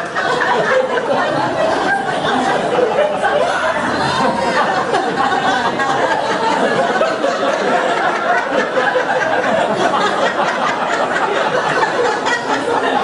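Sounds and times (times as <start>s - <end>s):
audience chattering: 0.0s - 13.0s
people laughing: 0.0s - 13.0s.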